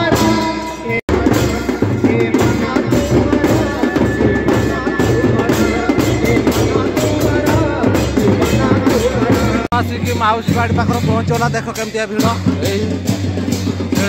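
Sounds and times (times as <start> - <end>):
person singing into a microphone: 0.0 - 11.4
loud drumming on steel drums: 0.0 - 14.0.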